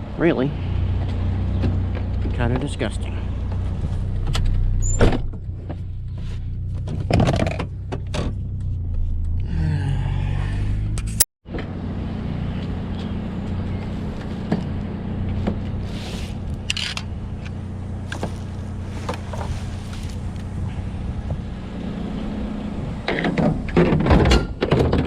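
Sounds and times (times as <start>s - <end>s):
pickup truck engine hum: 0.0s - 10.0s, 10.6s - 24.7s
road noise: 0.0s - 25.0s.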